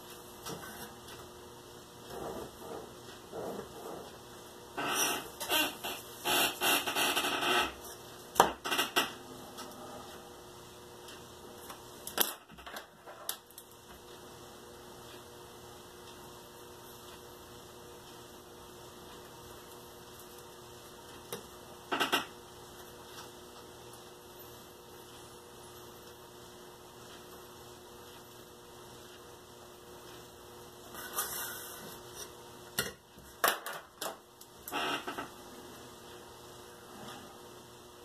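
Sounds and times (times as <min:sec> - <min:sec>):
faint electrical hum: 0:00.0 - 0:38.0.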